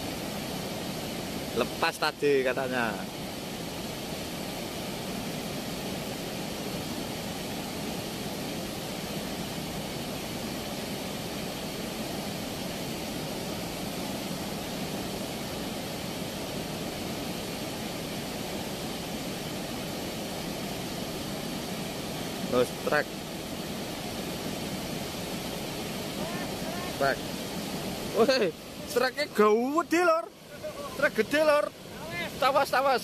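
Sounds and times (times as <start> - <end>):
river water rushing through weir: 0.0 - 33.0.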